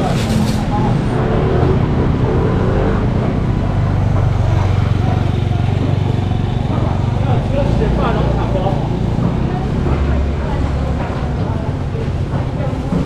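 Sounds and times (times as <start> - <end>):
motor scooter engine hum: 0.0 - 13.0
people's voices: 0.0 - 13.0.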